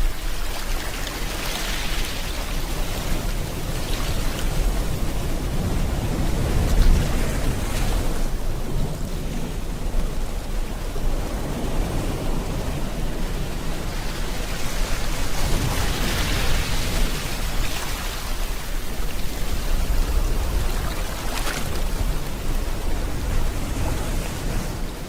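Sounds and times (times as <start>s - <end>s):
ocean surf: 0.0s - 25.0s
steady rain: 0.0s - 25.0s.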